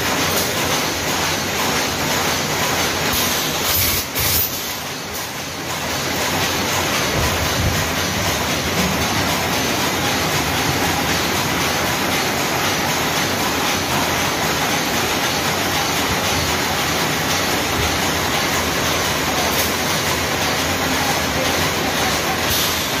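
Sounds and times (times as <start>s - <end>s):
workshop machinery rushing: 0.0s - 23.0s.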